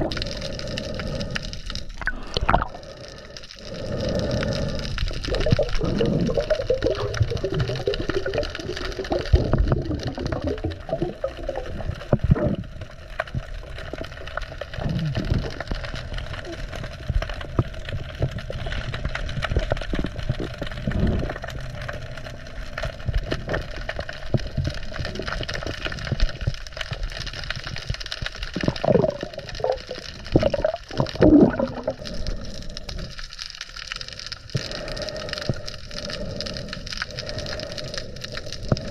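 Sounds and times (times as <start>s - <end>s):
crackle of small clicks: 0.0s - 38.9s
underwater gurgling and bubbles: 0.0s - 38.9s.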